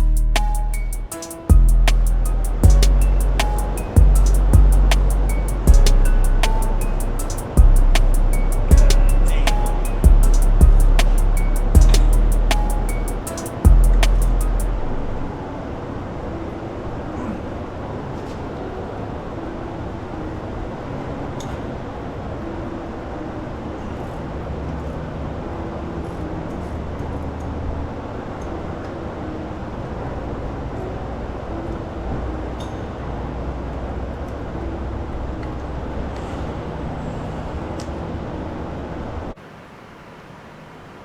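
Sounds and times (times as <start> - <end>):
steady rumbling background noise: 0.0 - 41.0.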